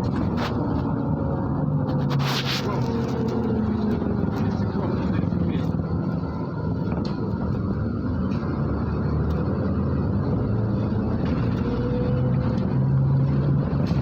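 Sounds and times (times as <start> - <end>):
bus diesel engine hum: 0.0 - 14.0
road noise: 0.0 - 14.0.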